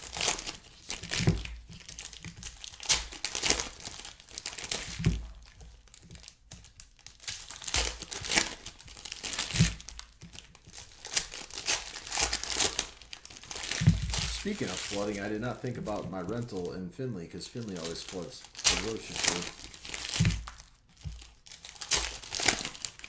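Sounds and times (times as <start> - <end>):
cards being handled: 0.0 - 16.8, 17.4 - 21.3
wrappers crinkling and tearing: 0.0 - 23.0.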